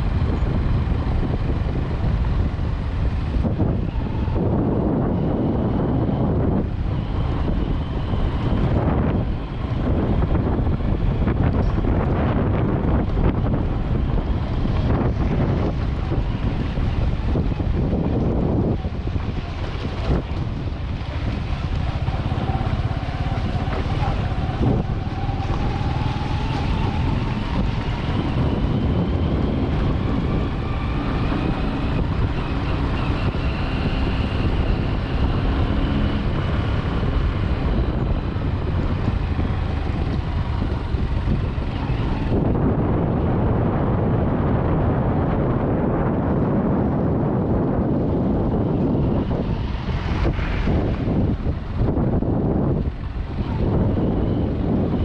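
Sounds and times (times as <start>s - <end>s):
vehicle engine running: 0.0s - 55.0s
wind noise on microphone: 0.0s - 55.0s.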